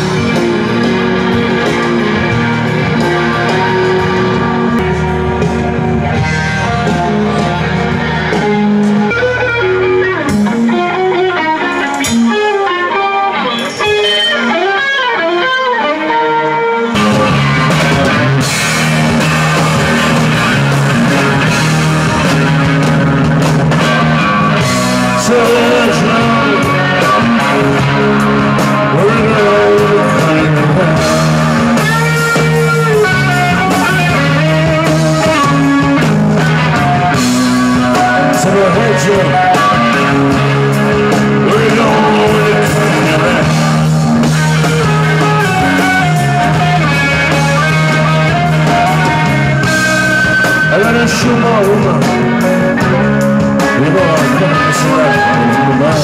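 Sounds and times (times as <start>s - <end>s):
electric guitar: 0.0s - 56.0s
live rock band: 0.0s - 56.0s.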